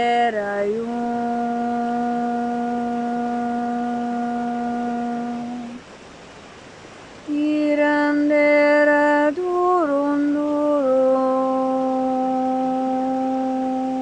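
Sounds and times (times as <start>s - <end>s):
woman singing a held vowel: 0.0s - 5.8s, 7.3s - 14.0s
running water hiss: 0.0s - 14.0s.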